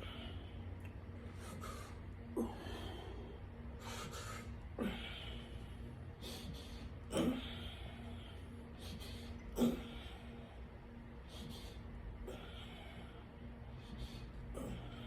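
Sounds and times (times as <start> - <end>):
person breathing hard: 0.0 - 15.0
steady low hum: 0.0 - 15.0.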